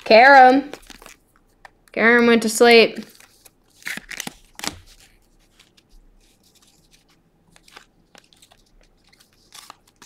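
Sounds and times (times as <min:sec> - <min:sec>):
cards flipped and sliding: 0:00.7 - 0:01.9, 0:03.0 - 0:10.0
card stock ticks and rustles: 0:00.7 - 0:02.0, 0:03.0 - 0:10.0.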